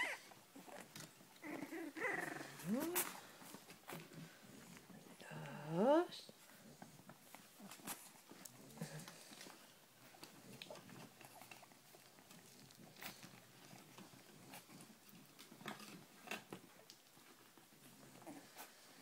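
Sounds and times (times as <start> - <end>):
puppies moving on blanket: 0.0 - 5.3, 5.9 - 19.0.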